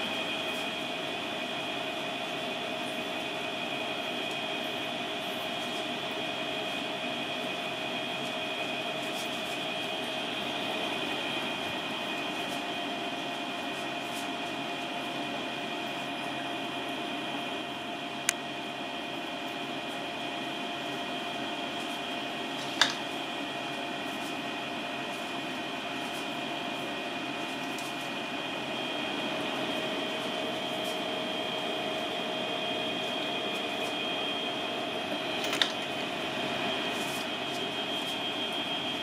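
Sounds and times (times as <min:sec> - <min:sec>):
mechanical hum with whining tones: 0:00.0 - 0:39.0.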